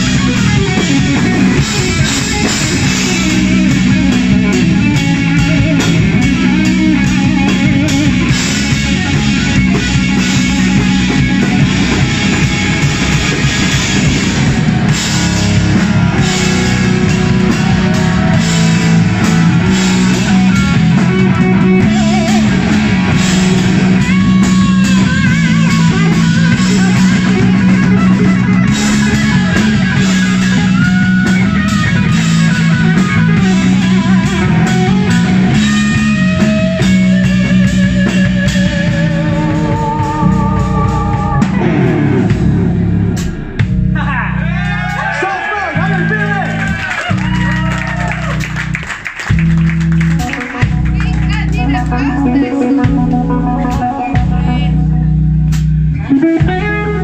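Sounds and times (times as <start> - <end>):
electric guitar solo: 0.0 - 43.6, 49.4 - 57.0
bass guitar: 0.0 - 57.0
drums: 0.0 - 57.0.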